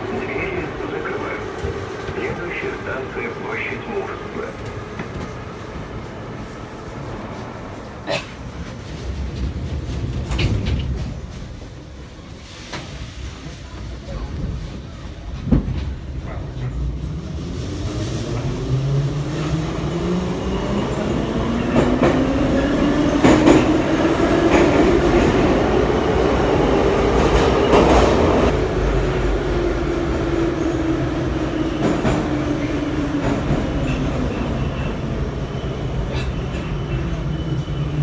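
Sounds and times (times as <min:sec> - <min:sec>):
metro train rumble: 0:00.0 - 0:38.0.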